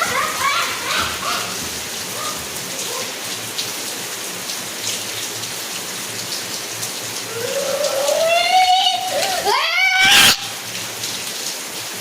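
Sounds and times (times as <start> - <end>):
raindrops ticking on surfaces: 0.0 - 12.0
steady rain hiss: 0.0 - 12.0.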